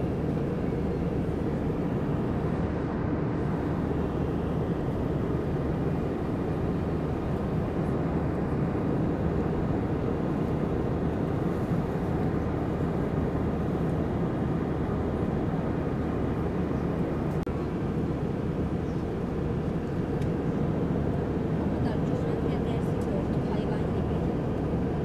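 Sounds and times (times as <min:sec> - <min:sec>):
airflow over fuselage: 0:00.0 - 0:25.0
airplane cabin rumble: 0:00.0 - 0:25.0.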